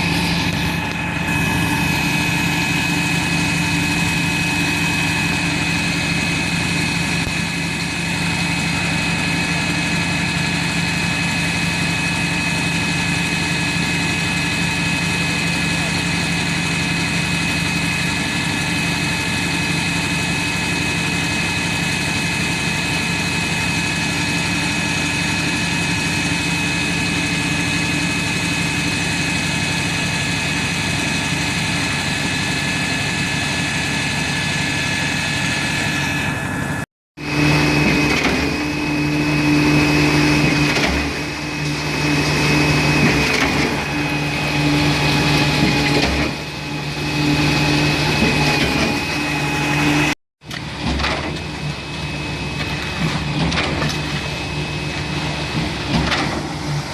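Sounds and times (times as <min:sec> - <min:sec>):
truck engine droning: 0:00.0 - 0:56.9.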